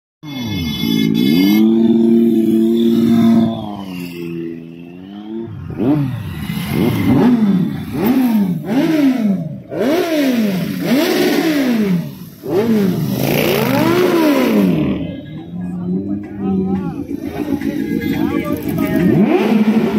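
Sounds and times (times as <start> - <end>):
motorcycle engine revving: 0.3 - 19.9.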